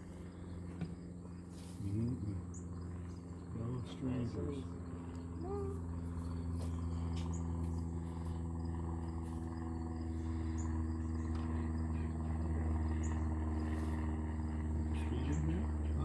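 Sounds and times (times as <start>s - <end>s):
faint insect chirps: 0.0s - 15.7s
steady low hum: 0.0s - 16.0s.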